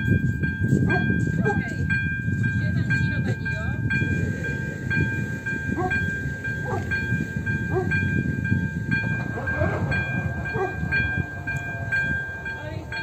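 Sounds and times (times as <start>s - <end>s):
electronic level crossing bell: 0.0s - 13.0s
low rumble: 0.0s - 13.0s.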